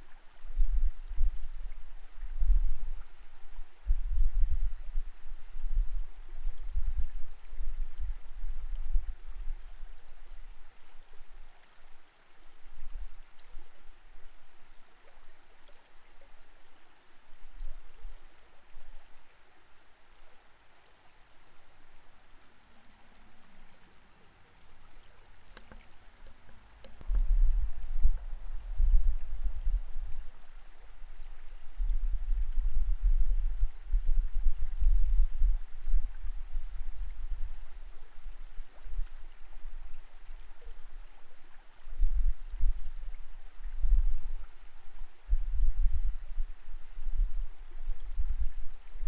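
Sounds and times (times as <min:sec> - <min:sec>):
deep low water surges: 0:00.0 - 0:49.0
muffled underwater flowing water: 0:00.0 - 0:49.0.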